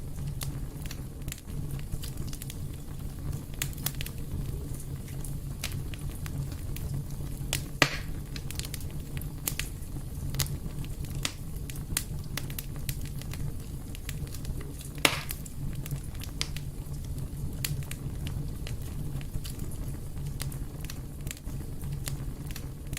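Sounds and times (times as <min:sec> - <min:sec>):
fire crackling: 0:00.0 - 0:22.9
loud fire pops: 0:00.0 - 0:22.9.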